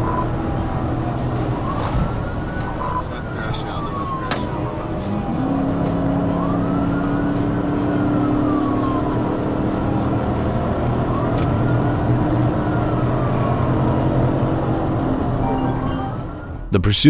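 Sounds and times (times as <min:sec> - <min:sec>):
car engine and road noise: 0:00.0 - 0:17.0
police siren wailing: 0:00.0 - 0:17.0.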